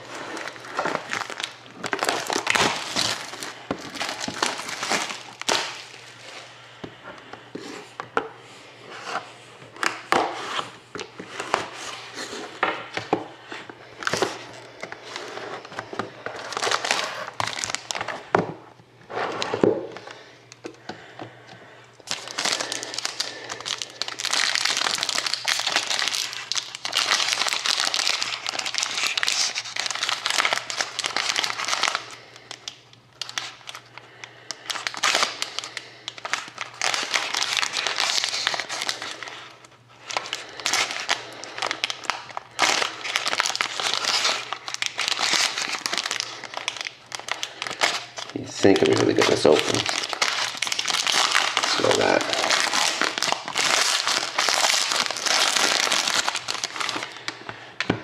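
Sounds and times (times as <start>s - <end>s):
foil wrapper crinkling: 0.0s - 6.5s, 13.9s - 18.3s, 22.0s - 57.6s.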